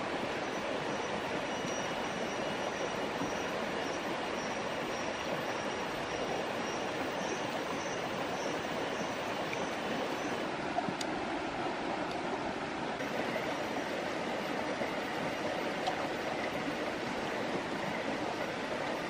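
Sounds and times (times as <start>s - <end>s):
stream running over stones: 0.0s - 19.0s.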